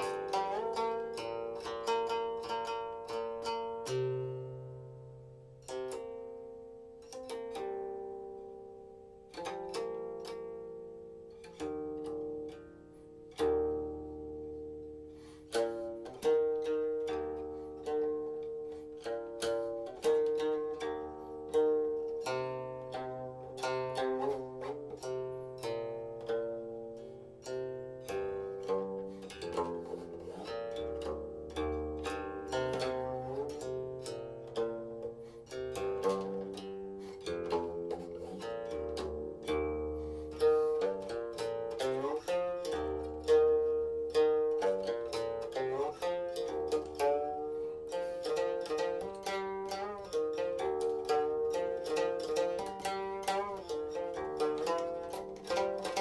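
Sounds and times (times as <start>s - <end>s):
plucked zither notes: 0.0s - 56.0s.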